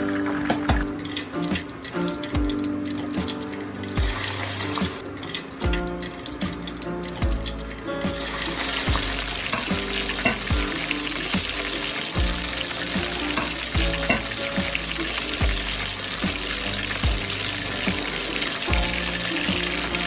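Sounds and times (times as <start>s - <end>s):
background music with steady beat: 0.0s - 20.0s
chicken sizzling in hot oil: 0.0s - 20.0s.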